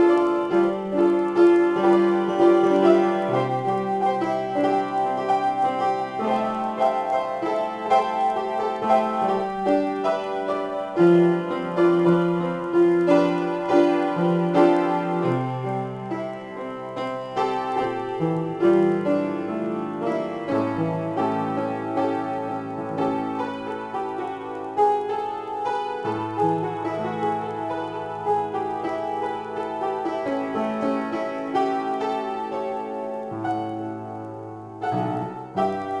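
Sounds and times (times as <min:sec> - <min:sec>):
solo piano improvisation: 0:00.0 - 0:36.0.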